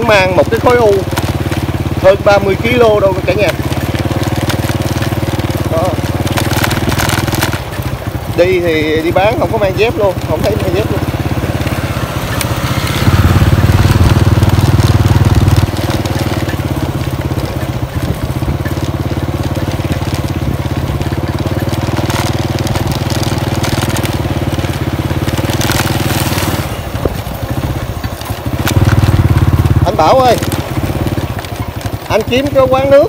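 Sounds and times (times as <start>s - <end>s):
rough road noise: 0.0s - 33.0s
small motorbike engine running: 0.0s - 33.0s.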